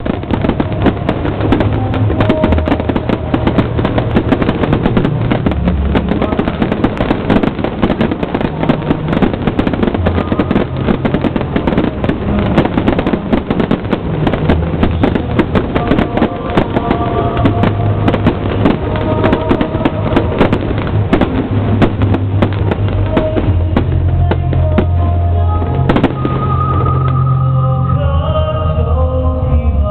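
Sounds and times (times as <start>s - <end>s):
fireworks bursting and crackling: 0.0s - 28.3s
music with heavy bass: 0.0s - 29.9s.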